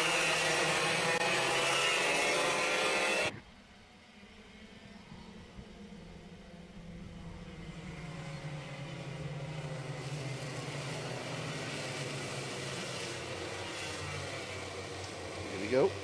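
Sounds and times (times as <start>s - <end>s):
racing kart engines: 0.0s - 16.0s.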